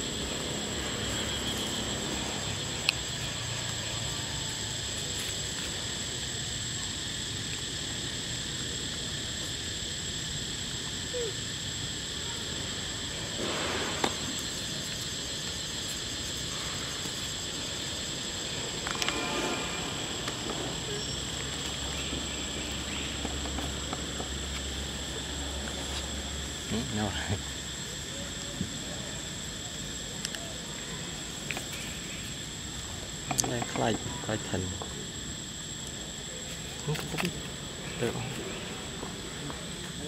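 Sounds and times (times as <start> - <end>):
high insect drone: 0.0 - 40.0.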